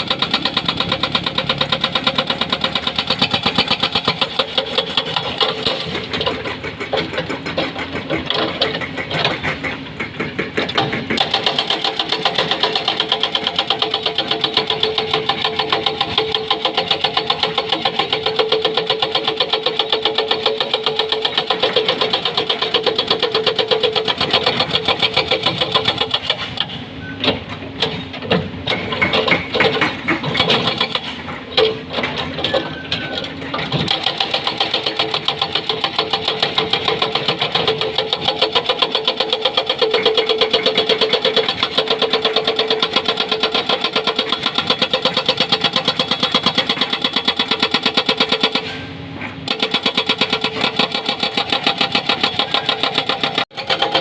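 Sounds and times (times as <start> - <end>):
hydraulic breaker hammering rock: 0.0 - 26.8, 27.8 - 54.0
excavator engine running: 0.0 - 54.0.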